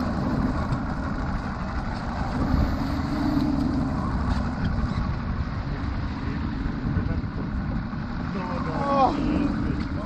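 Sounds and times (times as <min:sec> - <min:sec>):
outboard motor idling: 0:00.0 - 0:10.0.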